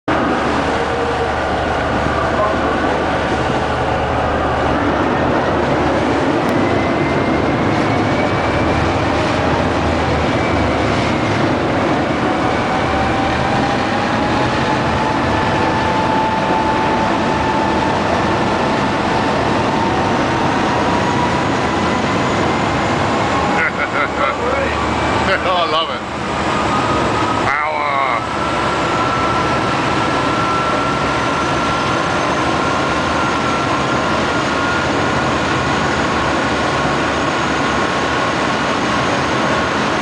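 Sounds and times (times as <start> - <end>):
boat engines rumbling: 0.1 - 40.0.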